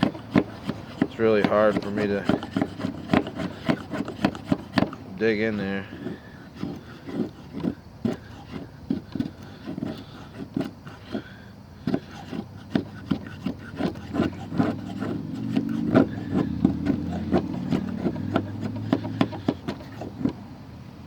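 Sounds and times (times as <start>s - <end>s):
blade scraping hardwood: 0.0s - 20.5s
low engine hum: 0.0s - 21.0s.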